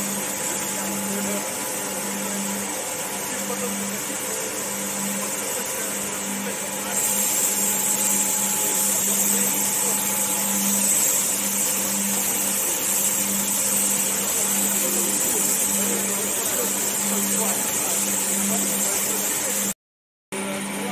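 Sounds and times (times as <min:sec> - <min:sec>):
pulsing machinery hum: 0:00.0 - 0:19.7
spray gun hissing: 0:00.0 - 0:19.7.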